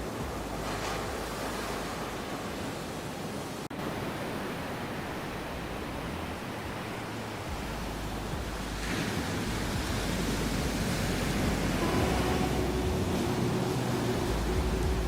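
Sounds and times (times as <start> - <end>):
sea waves heard under water: 0.0 - 15.0.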